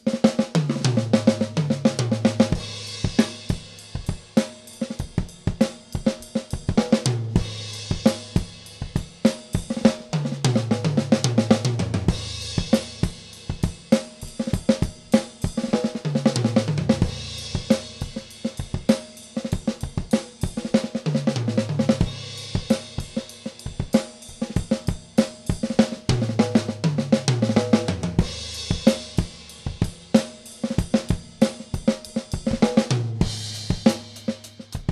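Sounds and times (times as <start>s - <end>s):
drum kit groove: 0.0s - 34.9s.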